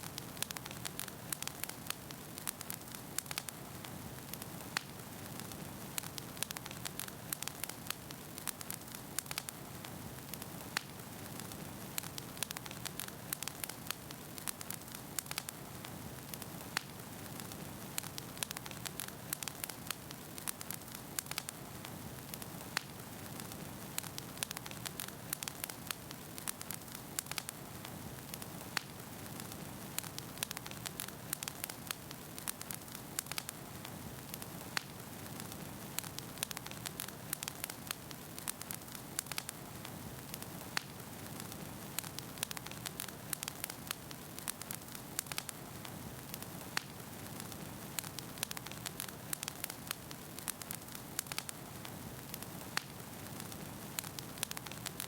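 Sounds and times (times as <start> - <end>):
fire hissing: 0.0 - 55.0
wood fire crackling: 0.0 - 55.0.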